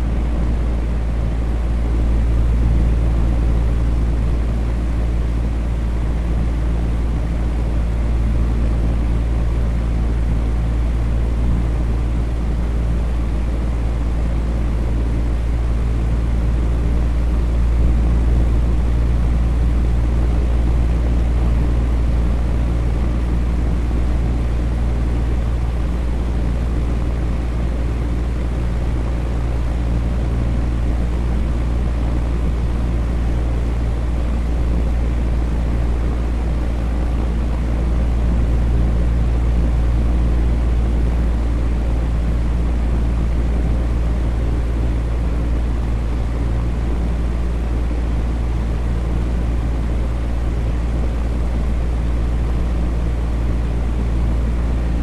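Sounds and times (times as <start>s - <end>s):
fan motor hum: 0.0s - 55.0s.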